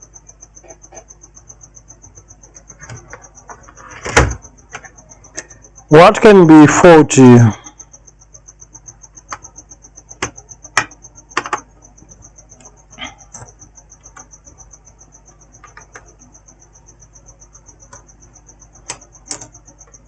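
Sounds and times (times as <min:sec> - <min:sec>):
insect chirping: 0:00.0 - 0:20.0.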